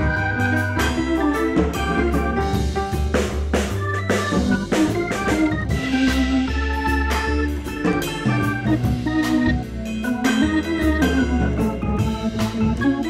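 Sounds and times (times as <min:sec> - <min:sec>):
bass line: 0:00.0 - 0:13.0
drum hits: 0:00.0 - 0:13.0
keyboard chords: 0:00.0 - 0:13.0.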